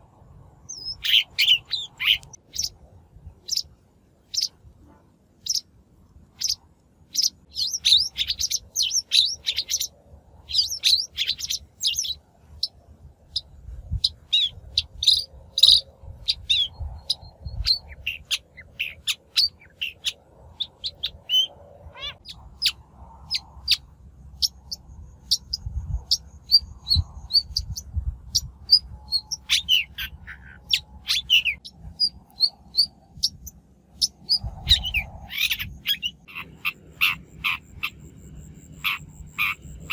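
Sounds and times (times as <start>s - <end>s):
shrike chirping and chattering: 0.7s - 2.8s, 3.4s - 4.6s, 5.4s - 5.7s, 6.4s - 39.9s.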